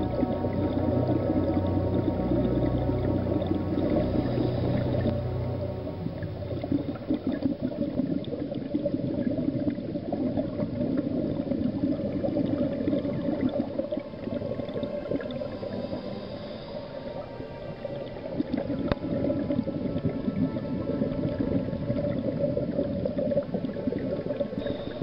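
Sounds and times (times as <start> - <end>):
underwater air bubbling: 0.0 - 25.0.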